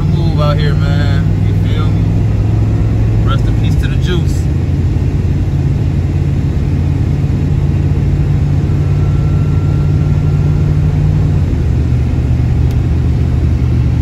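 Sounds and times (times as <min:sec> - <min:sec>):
engine and road drone in car: 0:00.0 - 0:14.0.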